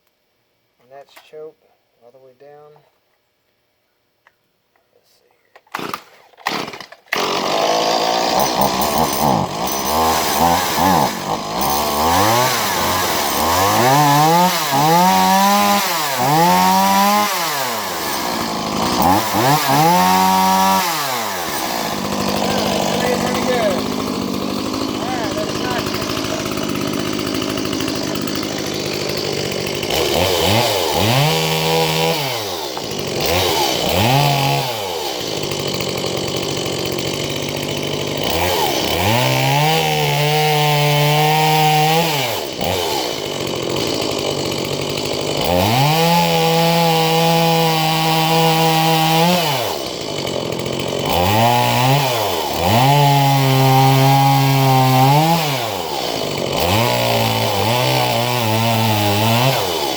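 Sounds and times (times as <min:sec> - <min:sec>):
chainsaw revving: 0:05.7 - 0:59.9.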